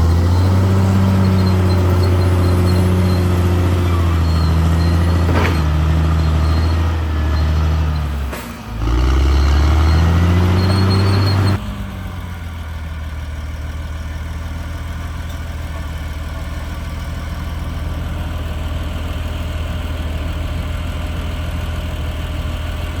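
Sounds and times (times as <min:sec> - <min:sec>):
bulldozer engine working: 0:00.0 - 0:23.0
diesel engine idling: 0:00.0 - 0:23.0.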